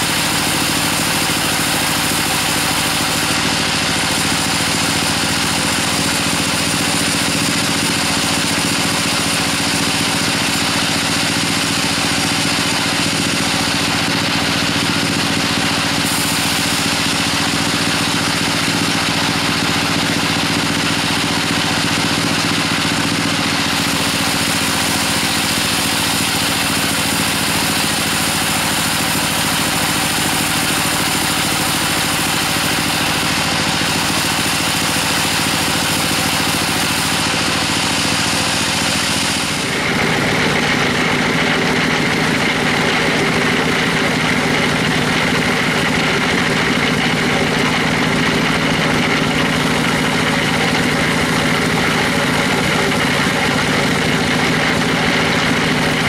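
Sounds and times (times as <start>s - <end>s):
band saw cutting log: 0.0s - 56.0s
sawmill drive drone: 0.0s - 56.0s.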